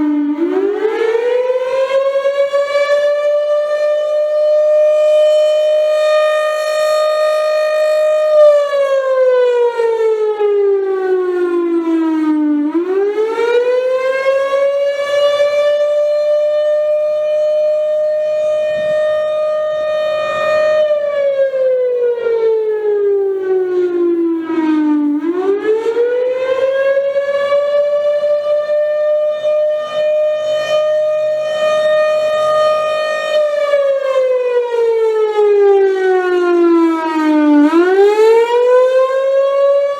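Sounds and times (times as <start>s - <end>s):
civil defense siren wailing: 0.0s - 39.9s.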